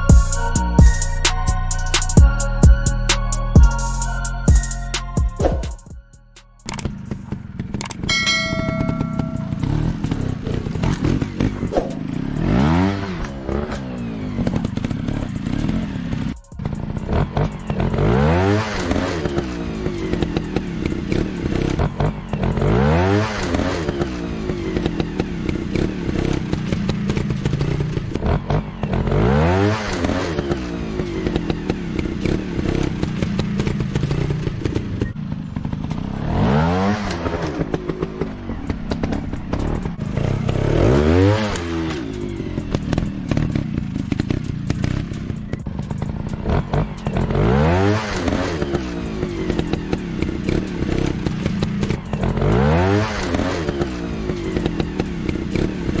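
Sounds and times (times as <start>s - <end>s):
dirt bike engines revving: 6.6s - 56.0s.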